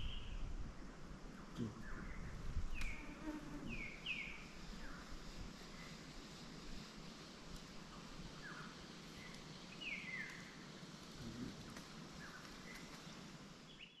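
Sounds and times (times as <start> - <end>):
faint forest ambience: 0.0 - 14.0
high falling bird calls: 1.3 - 14.0.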